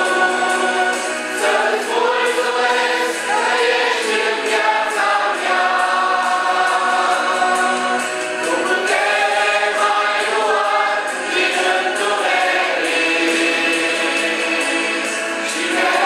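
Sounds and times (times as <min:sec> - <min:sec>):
group singing a worship song: 0:00.0 - 0:16.0.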